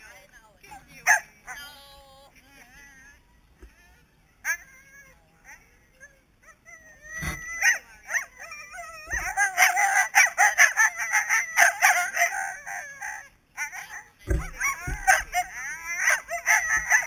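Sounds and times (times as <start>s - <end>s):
dogs yelping and yowling: 0.9s - 1.7s, 2.6s - 17.0s.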